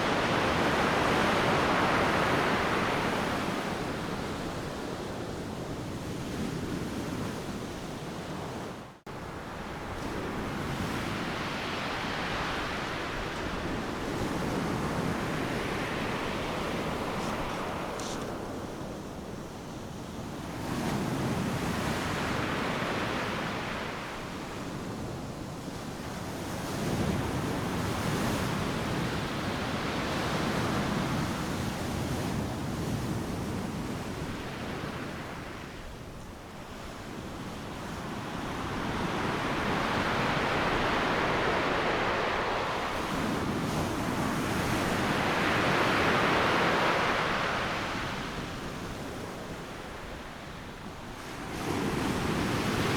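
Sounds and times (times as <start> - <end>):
waves breaking on a sandy beach: 0.0 - 52.9.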